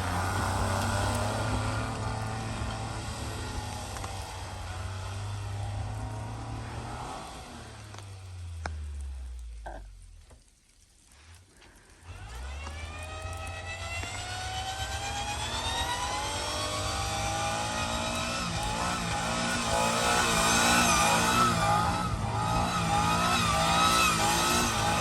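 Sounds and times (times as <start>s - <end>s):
truck engine revving: 0.0s - 9.8s, 12.1s - 25.0s.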